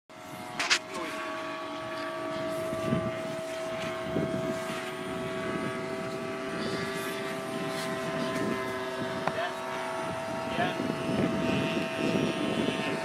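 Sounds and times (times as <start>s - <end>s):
aircraft engine drone: 0.1s - 13.0s.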